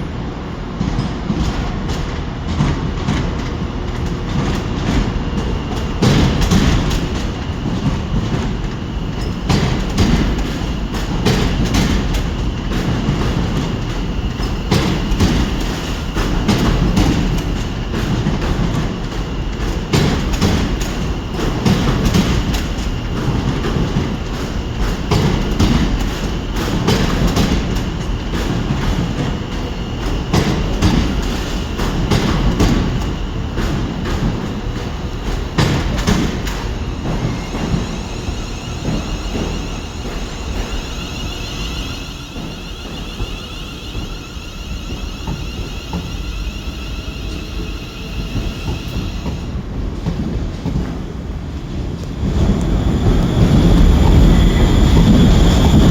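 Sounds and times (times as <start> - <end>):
train rumbling along track: 0.0 - 55.9.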